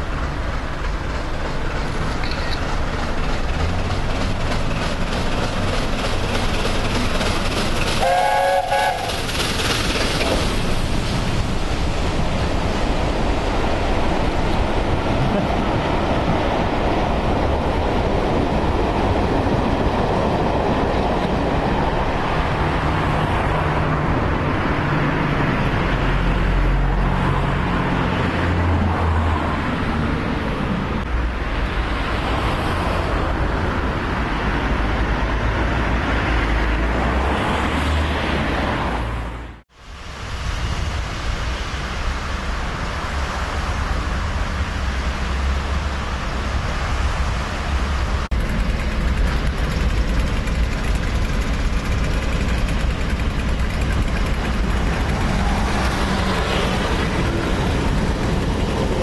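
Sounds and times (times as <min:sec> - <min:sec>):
road traffic rumble and hiss: 0:00.0 - 0:59.0.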